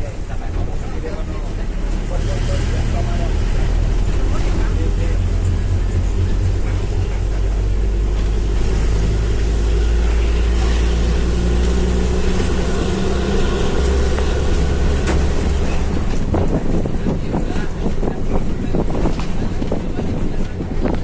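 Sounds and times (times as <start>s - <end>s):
bus engine droning: 0.0s - 21.0s.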